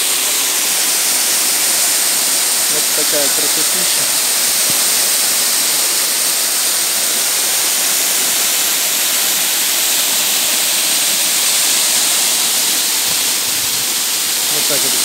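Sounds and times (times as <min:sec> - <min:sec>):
waterfall splashing: 0:00.0 - 0:15.0.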